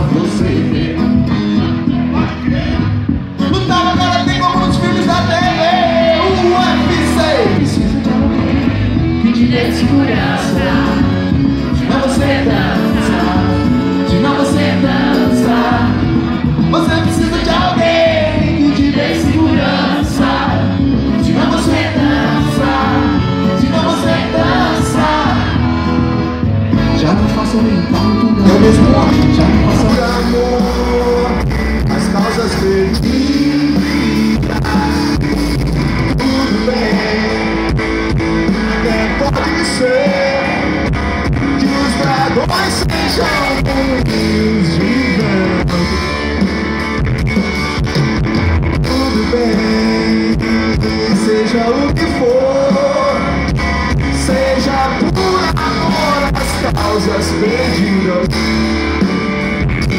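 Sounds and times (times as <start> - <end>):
drum kit beat: 0.0 - 26.2, 27.0 - 59.9
electric guitar: 0.0 - 59.9
live rock band playing: 0.0 - 59.9.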